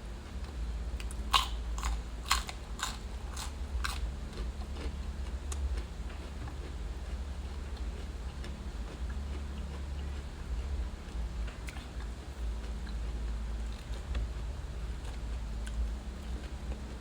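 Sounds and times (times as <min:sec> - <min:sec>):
steady low hum: 0:00.0 - 0:17.0
person chewing crunchy vegetables: 0:00.4 - 0:17.0.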